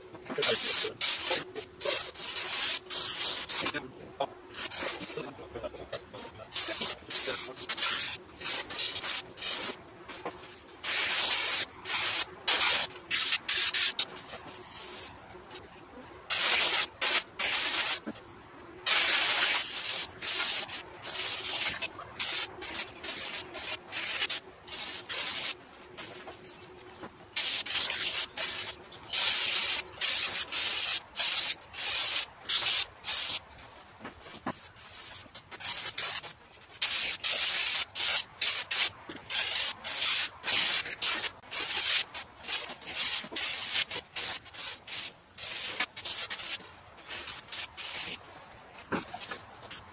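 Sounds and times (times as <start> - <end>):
sandpaper scrubbing on metal: 0.3 - 3.8, 4.5 - 5.4, 6.1 - 15.2, 16.3 - 18.0, 18.8 - 33.5, 34.1 - 48.2, 48.9 - 49.9.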